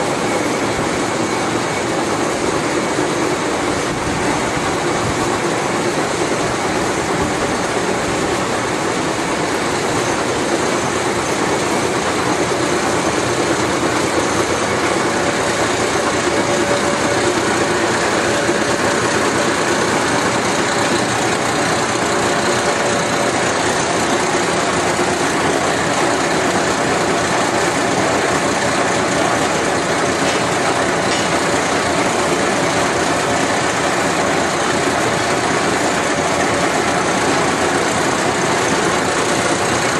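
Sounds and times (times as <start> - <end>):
machine motor and gearing drone: 0.1 - 39.9.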